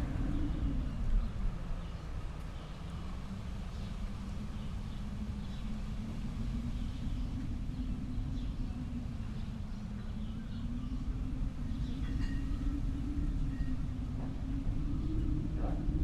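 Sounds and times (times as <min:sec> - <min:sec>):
faint bird chirps: 0:00.0 - 0:16.0
low rumbling nature ambience: 0:00.0 - 0:16.0.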